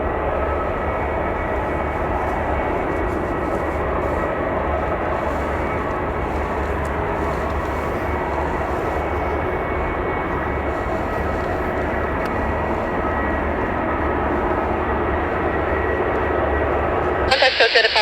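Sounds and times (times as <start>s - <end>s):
jet engines rushing and whining: 0.0s - 18.0s.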